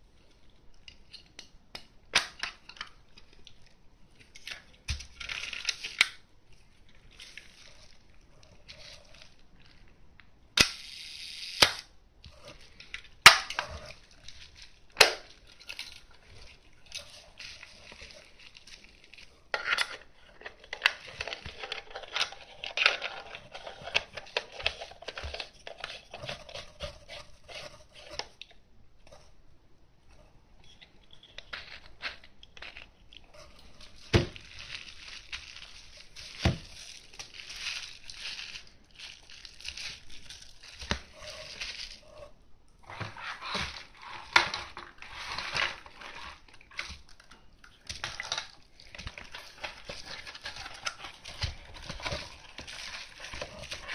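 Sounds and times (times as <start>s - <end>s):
bubble wrap crinkling: 2.5s - 11.6s, 12.3s - 28.4s, 31.0s - 53.9s.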